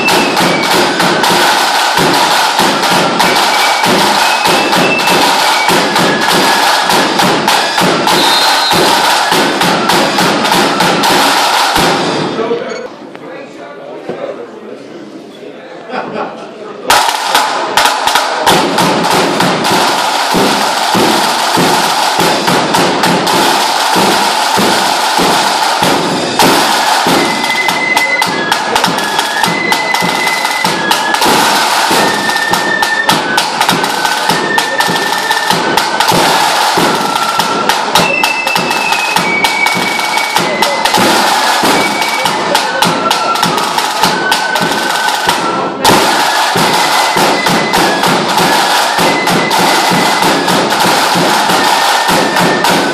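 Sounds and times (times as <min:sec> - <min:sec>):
high fife melody: 0:00.0 - 0:12.2, 0:17.0 - 0:52.9
drum beaten with canes: 0:00.0 - 0:12.6, 0:16.9 - 0:52.9.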